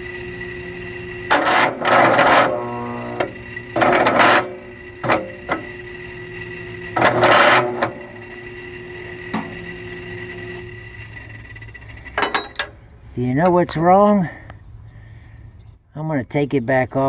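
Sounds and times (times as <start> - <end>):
starter motor rasping: 0.0 - 15.6
steady hum: 0.0 - 17.0.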